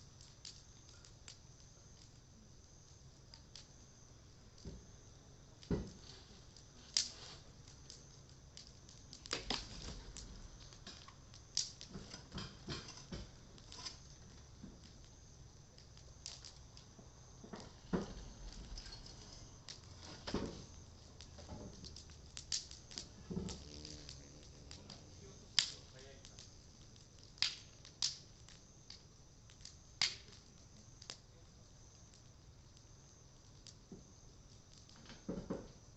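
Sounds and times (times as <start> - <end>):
sharp pops of fire: 0.0 - 35.9
wood fire crackling: 0.0 - 35.9.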